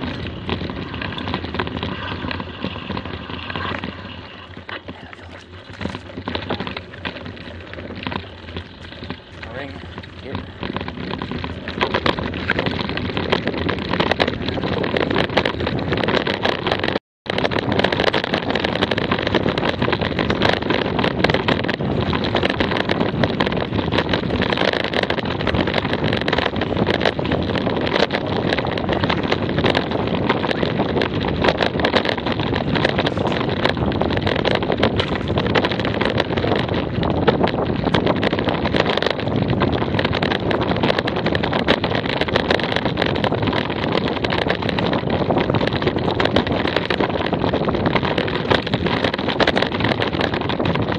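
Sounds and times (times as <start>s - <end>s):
bicycle tyres on dirt trail: 0.0s - 50.9s
bike rattling over bumps: 0.0s - 50.9s
wind buffeting microphone: 0.0s - 50.9s.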